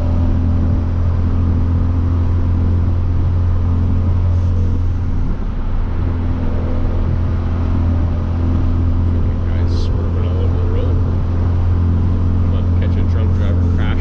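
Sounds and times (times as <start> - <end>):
low car exhaust drone: 0.0 - 14.0
road noise: 0.0 - 14.0.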